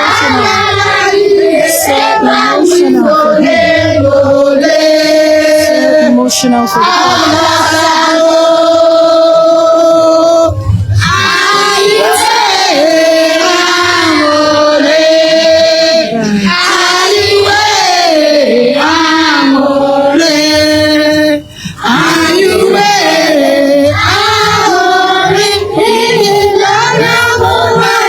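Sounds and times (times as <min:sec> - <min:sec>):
female choir singing: 0:00.0 - 0:28.0.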